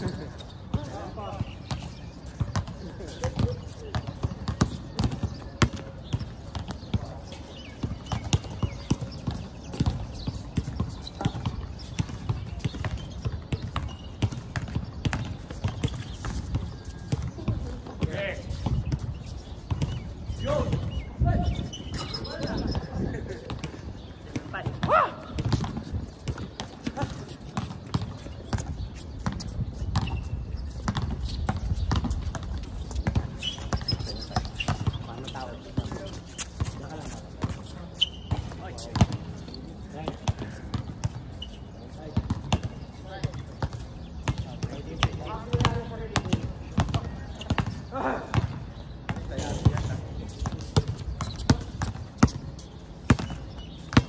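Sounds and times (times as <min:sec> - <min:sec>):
shoe squeak: 0:00.0 - 0:24.6, 0:25.4 - 0:44.8, 0:45.4 - 0:54.0
feet hitting hard court: 0:00.0 - 0:54.0
basketball bouncing: 0:00.1 - 0:21.0, 0:22.6 - 0:39.4, 0:42.2 - 0:54.0.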